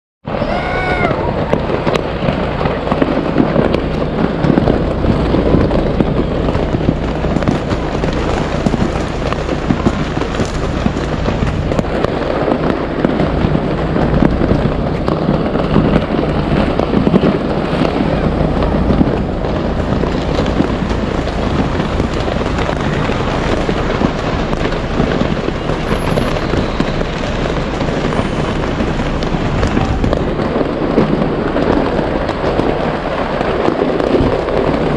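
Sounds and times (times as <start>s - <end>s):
fireworks bangs and crackles: 0.2s - 34.9s.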